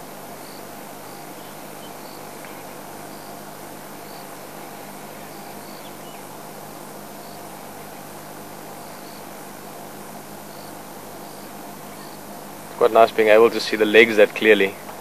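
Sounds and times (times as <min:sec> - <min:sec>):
insects chirping: 0:00.0 - 0:15.0
low steady hum: 0:00.0 - 0:15.0
steady hiss: 0:00.0 - 0:15.0.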